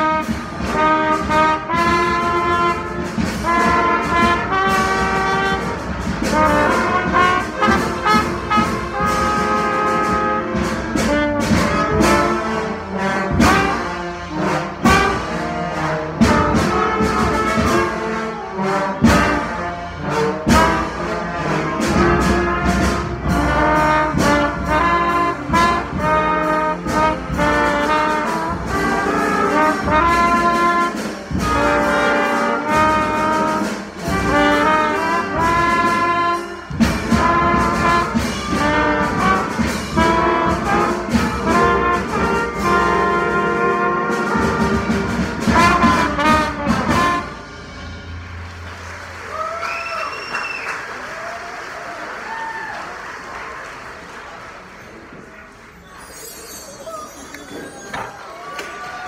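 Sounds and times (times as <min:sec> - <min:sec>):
trumpets playing: 0:00.0 - 0:51.0.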